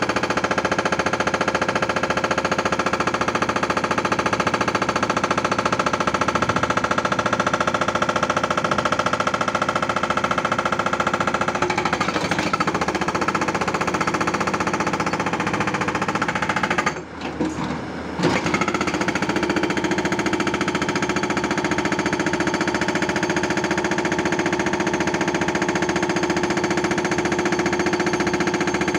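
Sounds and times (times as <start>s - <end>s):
hydraulic rock breaker hammering: 0.0s - 28.9s.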